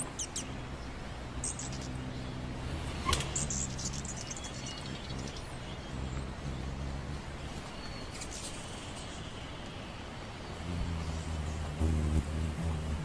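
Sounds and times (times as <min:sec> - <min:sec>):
hummingbird wings humming: 0:00.0 - 0:13.0
steady hiss: 0:00.0 - 0:13.0.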